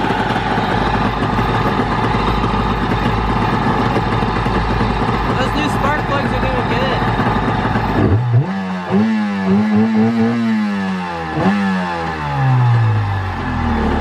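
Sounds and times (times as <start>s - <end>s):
jet ski engine revving: 0.0s - 14.0s.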